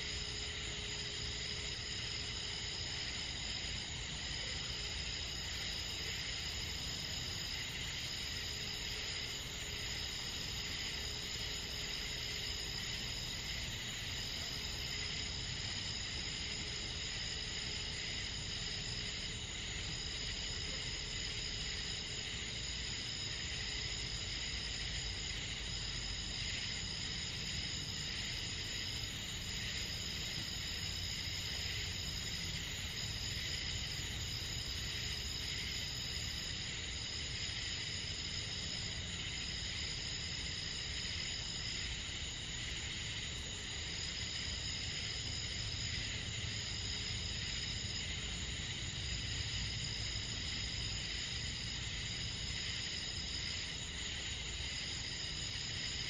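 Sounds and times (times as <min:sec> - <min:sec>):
crickets and insects trilling: 0:00.0 - 0:56.0.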